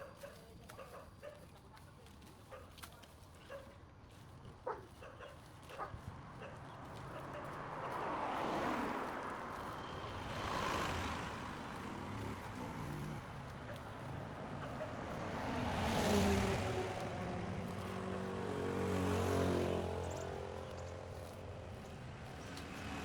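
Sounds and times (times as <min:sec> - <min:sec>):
vehicles passing by: 0:03.8 - 0:23.0.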